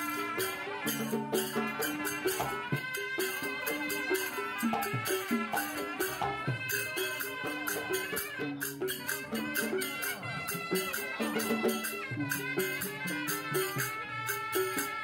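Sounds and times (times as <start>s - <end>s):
fast percussion beat: 0.0s - 15.0s.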